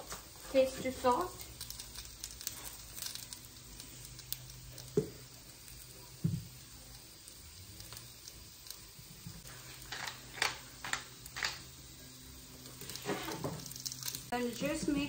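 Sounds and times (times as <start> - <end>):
pepper mill grinding: 0.0 - 15.0.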